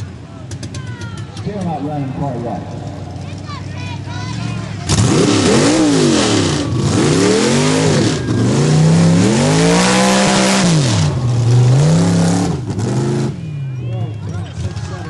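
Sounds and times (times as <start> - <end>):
truck engine revving: 1.4 - 15.0.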